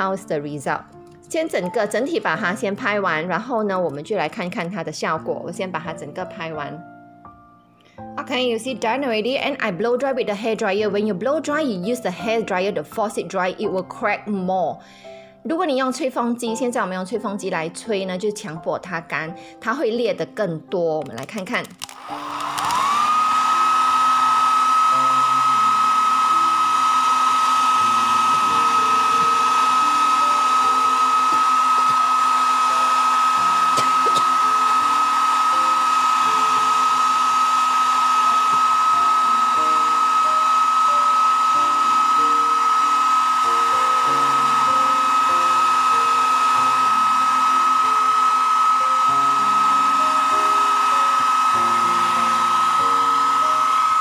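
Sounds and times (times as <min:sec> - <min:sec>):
hair dryer whining: 0:00.0 - 0:06.4, 0:08.0 - 0:14.4, 0:21.1 - 0:54.0
soft background music: 0:00.0 - 0:54.0.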